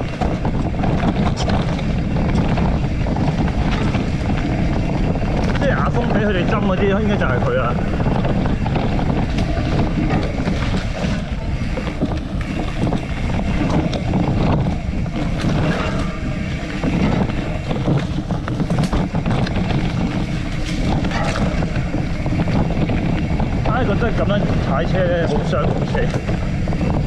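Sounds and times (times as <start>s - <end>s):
bicycle rattles and knocks: 0.0s - 27.0s
wind buffeting microphone: 0.0s - 27.0s.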